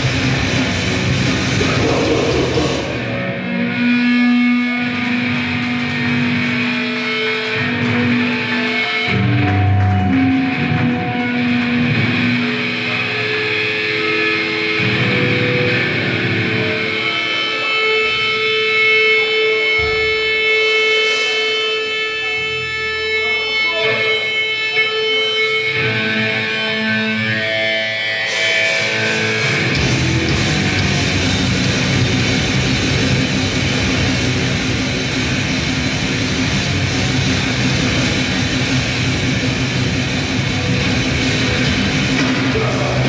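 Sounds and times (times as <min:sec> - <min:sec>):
loud heavy metal band: 0:00.0 - 0:43.0
ringing electric guitar: 0:00.0 - 0:43.0.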